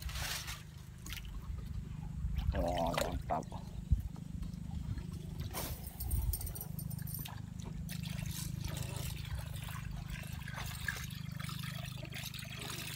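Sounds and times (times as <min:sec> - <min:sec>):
pulsing low hum: 0:00.9 - 0:12.9
water trickling and gurgling: 0:00.9 - 0:12.9.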